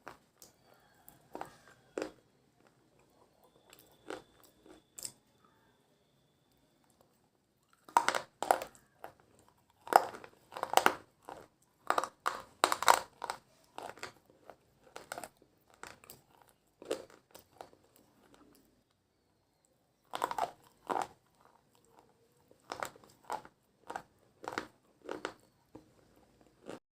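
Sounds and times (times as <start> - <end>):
slate pencils crunching in mouth: 0.0 - 5.2, 7.6 - 18.7, 20.0 - 26.8.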